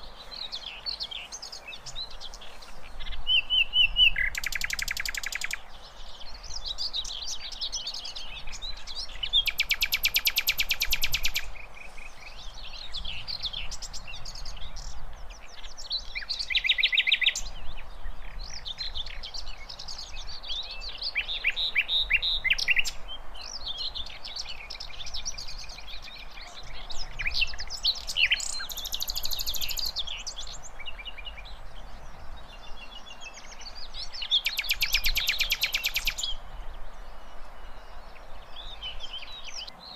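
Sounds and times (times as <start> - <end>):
flycatcher singing: 0.0 - 15.0, 18.5 - 39.9.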